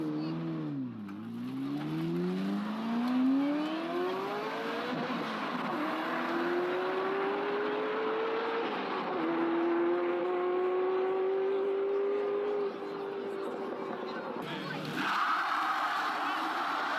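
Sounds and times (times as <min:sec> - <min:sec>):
car accelerating hard: 0:00.0 - 0:13.8.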